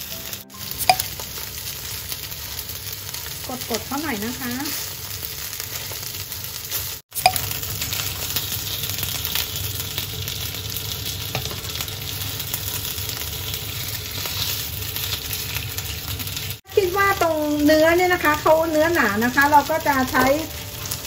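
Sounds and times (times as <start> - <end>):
chicken sizzling in frying pan: 0.0 - 21.0.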